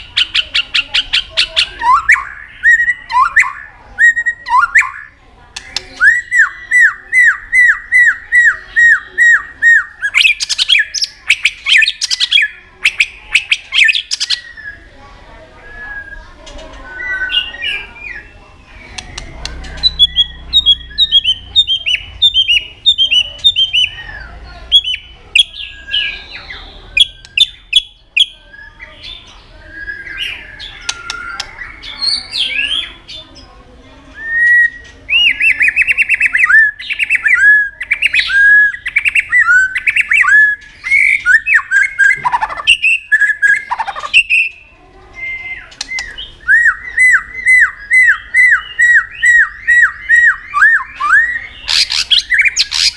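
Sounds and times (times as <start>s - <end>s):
bird singing whistled notes: 1.2s - 5.1s, 6.0s - 14.9s, 15.6s - 32.9s, 34.1s - 52.9s.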